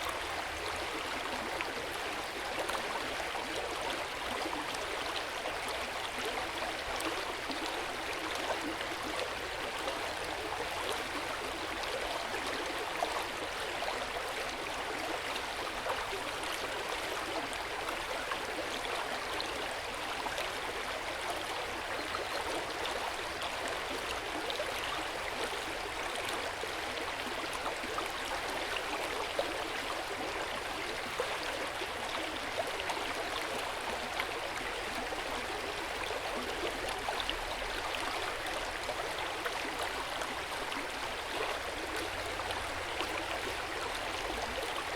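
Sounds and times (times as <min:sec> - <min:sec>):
stream running over rocks: 0:00.0 - 0:44.9.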